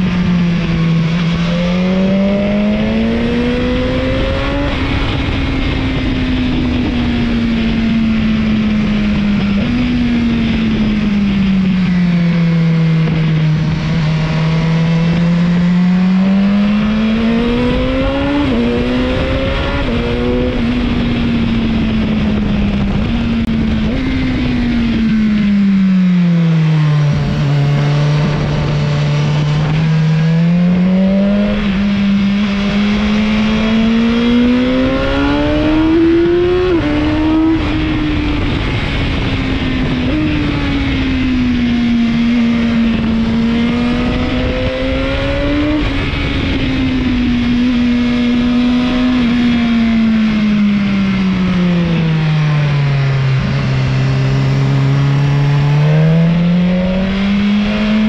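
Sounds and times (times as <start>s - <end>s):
motorcycle engine revving: 0.0s - 58.0s
wind and road noise: 0.0s - 58.0s.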